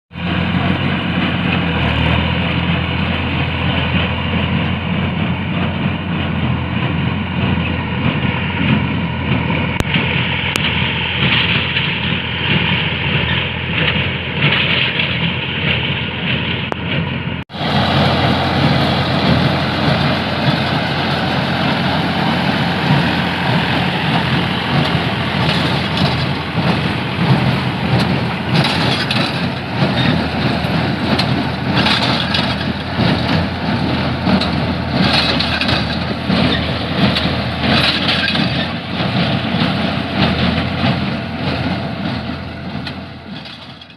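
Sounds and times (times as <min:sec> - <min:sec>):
tractor diesel engine running: 0:00.1 - 0:43.9.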